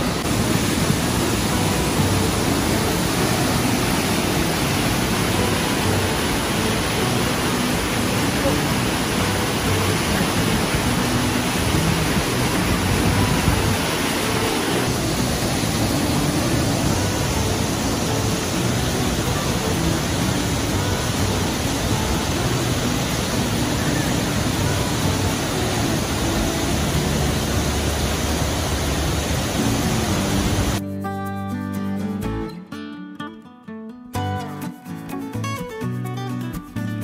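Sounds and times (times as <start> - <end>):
waterfall rushing: 0.0 - 30.8.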